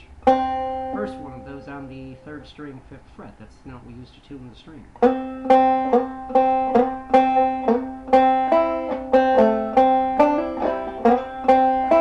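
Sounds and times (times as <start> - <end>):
banjo melody: 0.0 - 3.7, 4.9 - 12.0.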